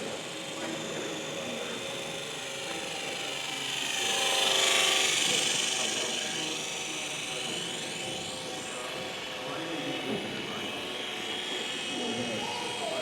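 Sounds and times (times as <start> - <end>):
model airplane motor whining: 0.0 - 13.0.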